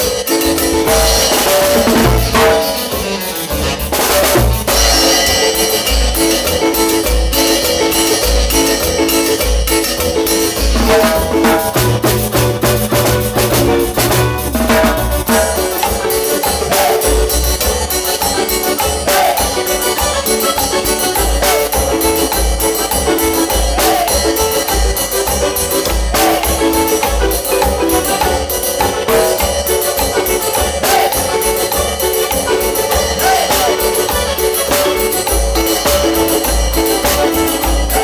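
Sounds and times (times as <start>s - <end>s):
live cumbia band playing: 0.0s - 38.0s.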